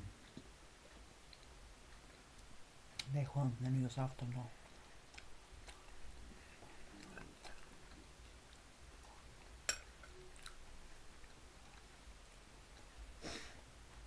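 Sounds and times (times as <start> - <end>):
person chewing food: 0.1 - 14.0.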